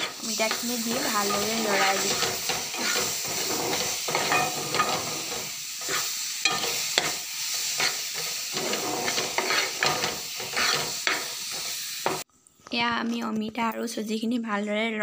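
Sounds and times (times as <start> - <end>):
metal spoon scraping frying pan: 0.0 - 12.2
oil sizzling: 0.0 - 12.3.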